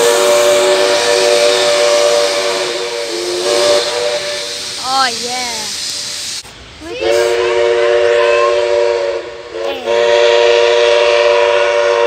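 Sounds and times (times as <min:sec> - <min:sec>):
steam locomotive chime whistle: 0:00.0 - 0:12.0.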